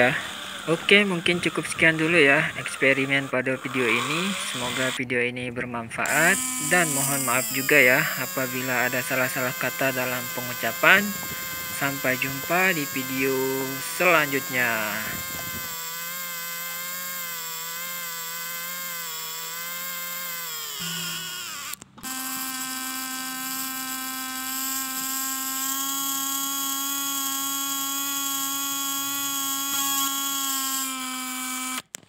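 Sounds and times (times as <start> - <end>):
small motor and gearbox whining: 0.0 - 5.0, 6.0 - 32.0.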